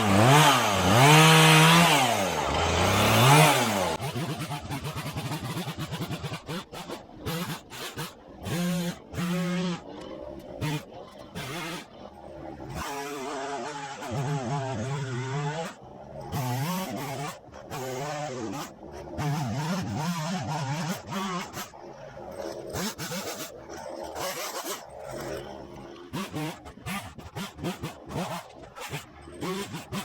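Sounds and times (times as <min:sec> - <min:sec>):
chainsaw engine revving: 0:00.0 - 0:12.0, 0:12.7 - 0:21.7, 0:22.6 - 0:30.0.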